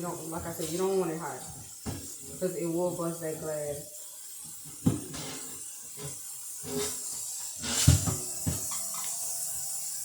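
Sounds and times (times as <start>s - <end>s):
tap water running onto glass: 0.0s - 10.0s.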